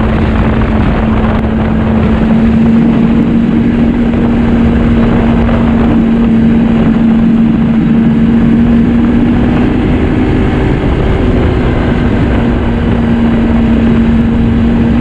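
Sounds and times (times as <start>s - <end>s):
snowmobile engine droning: 0.0s - 15.0s.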